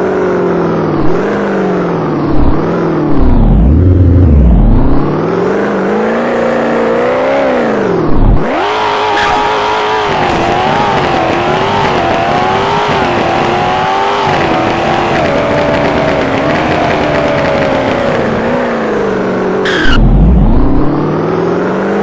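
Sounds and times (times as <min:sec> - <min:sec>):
car engine revving hard: 0:01.0 - 0:22.0.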